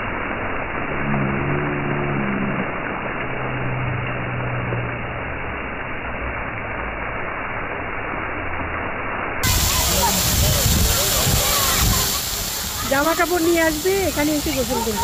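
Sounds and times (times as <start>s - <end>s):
fountain jets splashing on paving: 0.0s - 15.0s.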